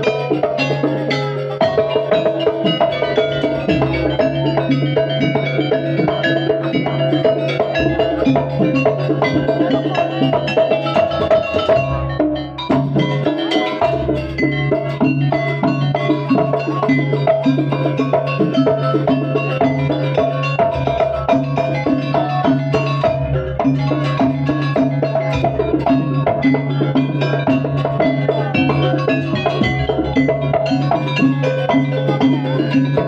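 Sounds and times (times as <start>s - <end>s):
drum strokes: 0.0s - 33.0s
gamelan struck metal notes: 0.0s - 33.0s.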